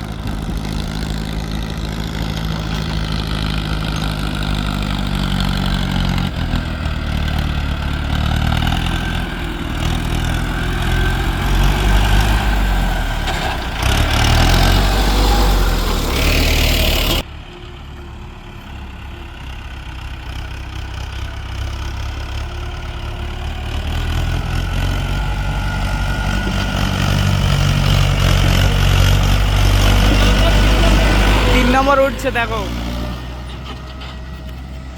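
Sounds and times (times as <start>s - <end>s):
diesel tractor engine under load: 0.0s - 34.9s.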